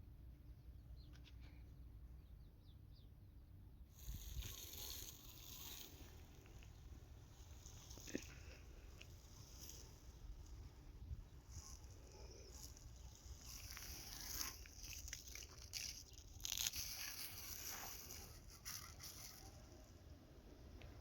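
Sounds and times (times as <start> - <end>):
faint crunching and rustling: 3.9 - 21.0.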